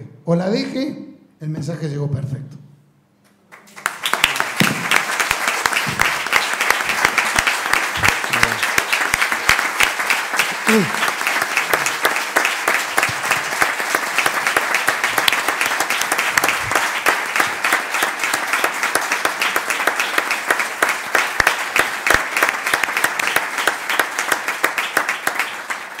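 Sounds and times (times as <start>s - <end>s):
audience applauding: 3.5s - 26.0s.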